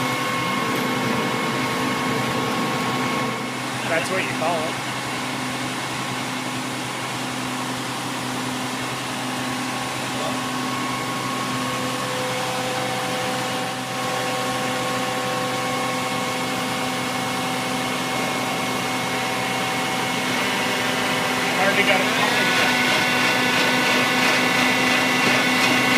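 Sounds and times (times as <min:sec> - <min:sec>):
pump machine hum with whining tones: 0:00.0 - 0:25.9.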